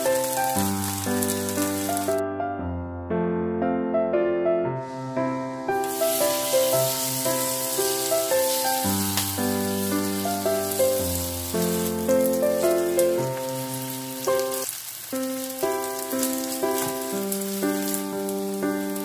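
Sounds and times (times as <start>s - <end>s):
batter sizzling in hot oil: 0.0s - 2.2s, 5.7s - 19.0s
background music with melody: 0.0s - 19.0s.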